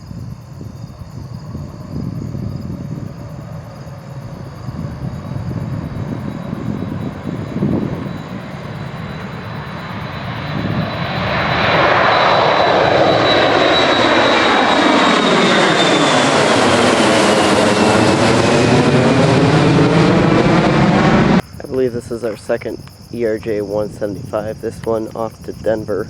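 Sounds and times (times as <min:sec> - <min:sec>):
jet engines passing: 0:00.1 - 0:26.0.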